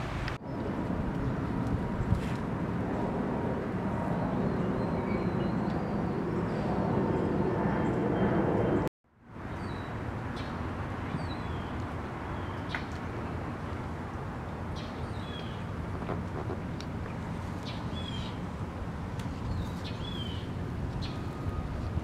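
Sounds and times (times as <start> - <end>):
wind buffeting microphone: 0.0 - 8.8, 13.1 - 22.0.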